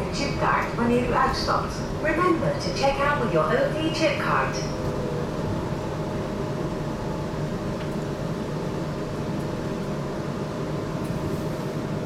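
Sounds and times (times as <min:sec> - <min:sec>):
constant hum: 0:00.0 - 0:12.0
tram rolling rumble: 0:00.0 - 0:12.0.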